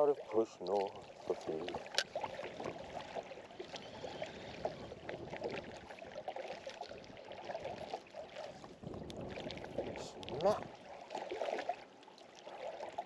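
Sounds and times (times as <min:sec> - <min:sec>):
small waves slapping boat hull: 0:00.0 - 0:13.0
steady wash of water: 0:00.0 - 0:13.0.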